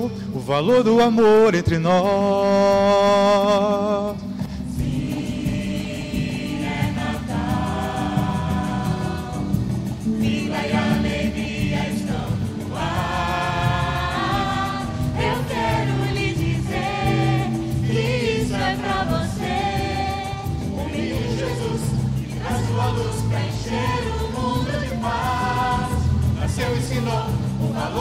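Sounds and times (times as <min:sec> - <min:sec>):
musical accompaniment: 0:00.0 - 0:28.0
church choir singing: 0:04.7 - 0:28.0.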